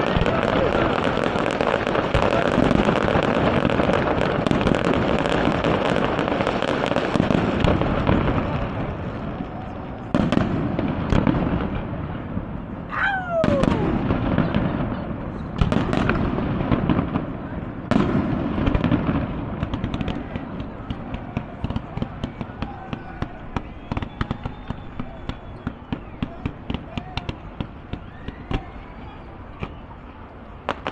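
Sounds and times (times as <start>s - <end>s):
fireworks crackling and popping: 0.0s - 12.5s, 13.2s - 28.7s, 30.6s - 30.9s
fireworks sharp bangs: 0.0s - 28.7s, 30.6s - 30.9s.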